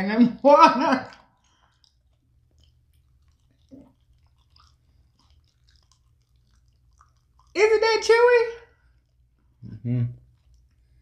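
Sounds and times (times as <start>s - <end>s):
faint chewing and mouth sounds: 0.0s - 11.0s.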